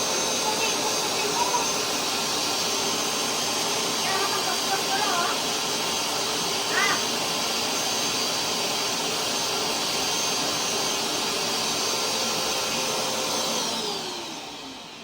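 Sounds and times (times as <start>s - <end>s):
carpet cleaner motor whining: 0.0s - 15.0s.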